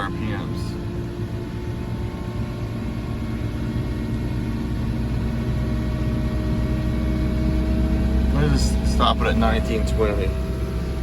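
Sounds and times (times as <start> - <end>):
diesel engine revving: 0.0 - 11.0
snowblower running: 0.0 - 11.0.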